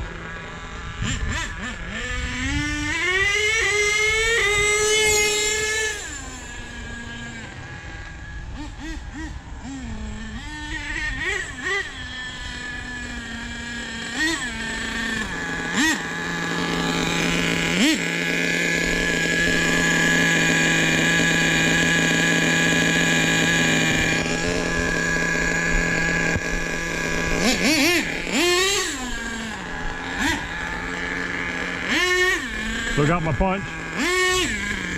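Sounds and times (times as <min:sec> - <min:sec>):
rc truck engine revving: 0:00.0 - 0:34.9.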